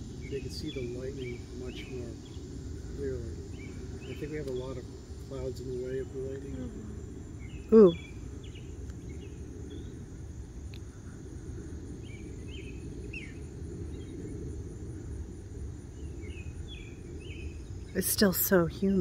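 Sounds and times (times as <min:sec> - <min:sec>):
frogs chirping: 0:00.0 - 0:19.0
steady low rumble: 0:00.0 - 0:19.0.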